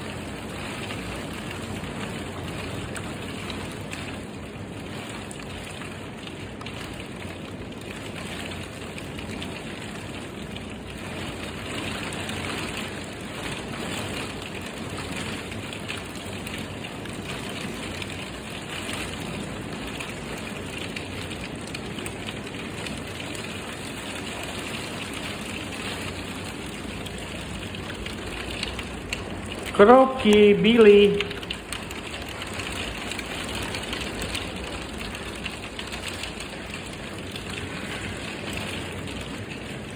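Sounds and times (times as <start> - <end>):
rain pattering on hard surfaces: 0.0 - 39.9.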